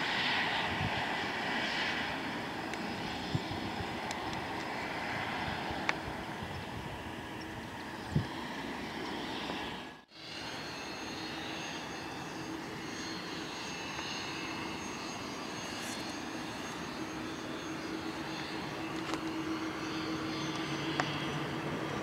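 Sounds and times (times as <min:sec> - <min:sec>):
distant jet engines: 0:00.0 - 0:22.0.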